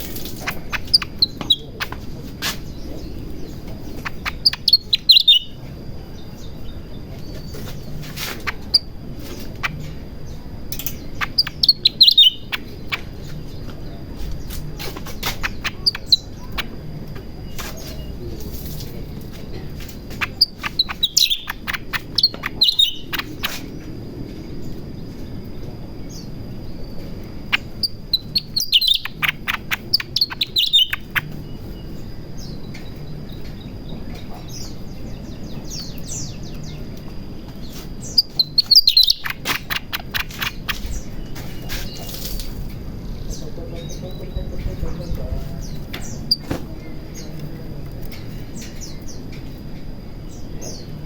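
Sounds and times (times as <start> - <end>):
bird chirping: 0.0 - 51.0.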